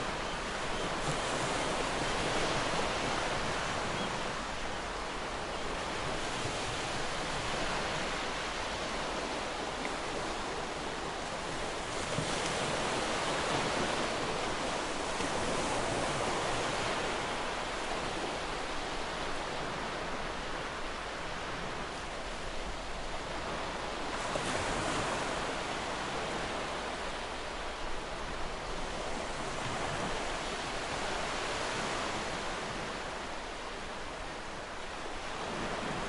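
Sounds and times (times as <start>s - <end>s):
ocean waves washing onto beach: 0.0s - 36.0s.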